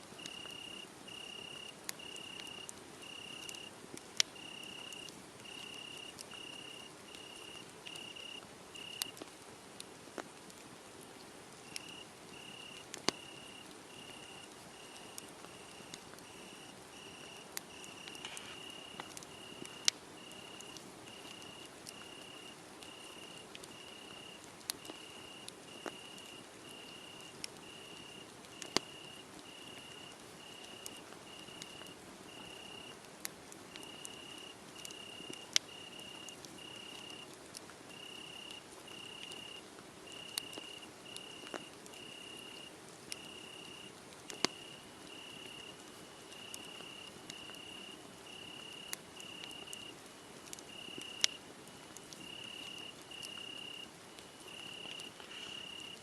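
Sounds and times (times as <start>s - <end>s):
cricket chirping: 0.2s - 3.7s, 4.4s - 9.2s, 11.6s - 33.0s, 33.8s - 37.2s, 37.9s - 49.9s, 50.7s - 51.4s, 52.2s - 56.0s
wood fire crackling: 0.2s - 56.0s.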